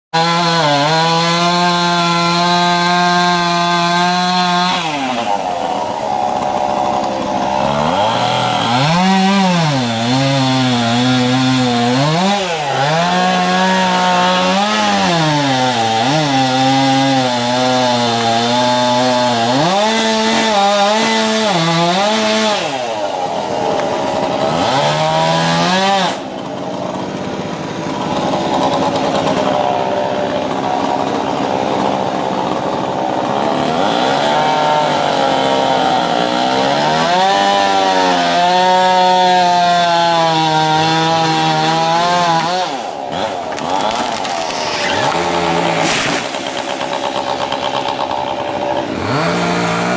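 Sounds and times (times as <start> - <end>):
chainsaw cutting wood: 0.1 - 49.9.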